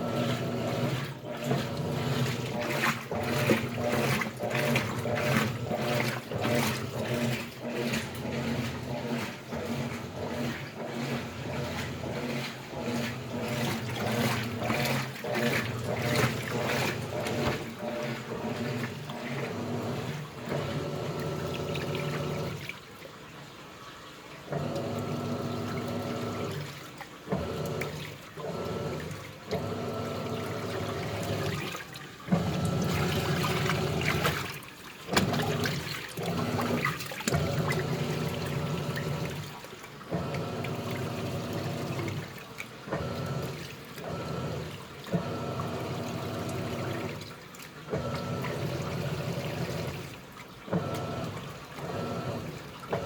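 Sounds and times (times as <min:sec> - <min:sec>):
washing machine motor hum: 0:00.0 - 0:53.0
water sloshing in drums: 0:00.0 - 0:53.0.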